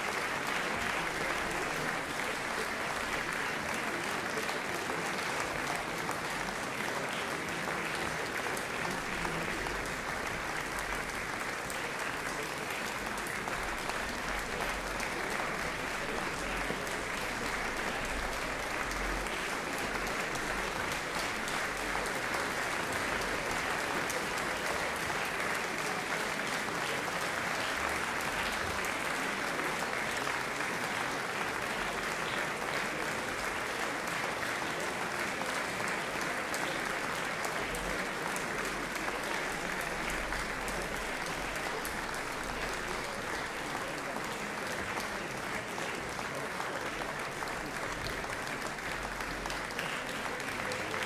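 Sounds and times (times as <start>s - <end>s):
audience applauding: 0.0s - 51.0s.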